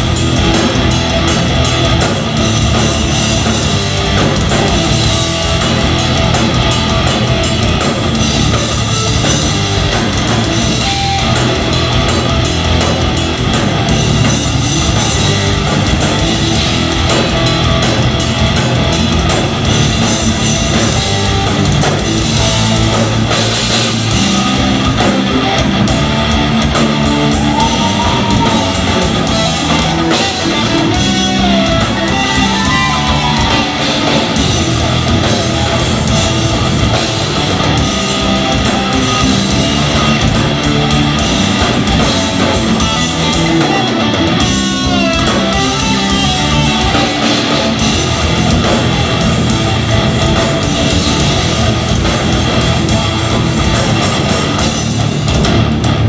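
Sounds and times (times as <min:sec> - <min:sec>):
live metal band playing: 0:00.0 - 0:56.0.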